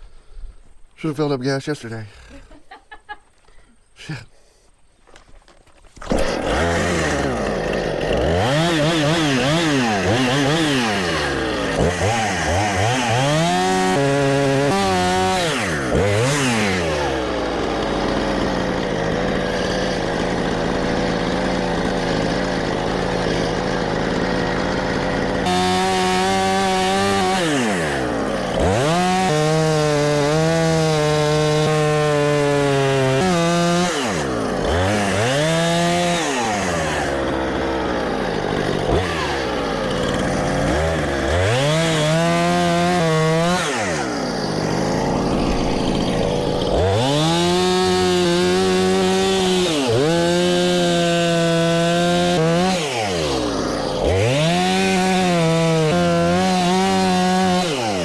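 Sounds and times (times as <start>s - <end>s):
chainsaw cutting log: 5.0s - 58.0s
chainsaw revving: 5.2s - 58.0s.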